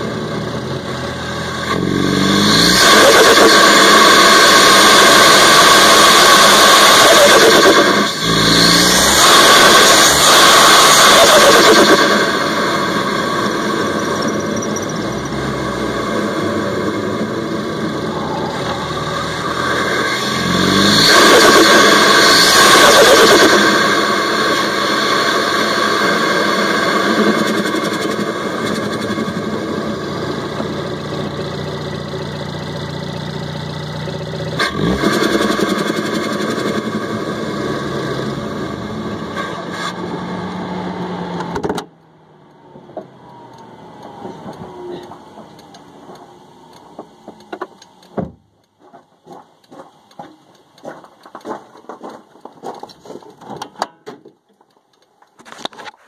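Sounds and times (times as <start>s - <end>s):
engine intake and turbo noise: 0.0s - 53.8s.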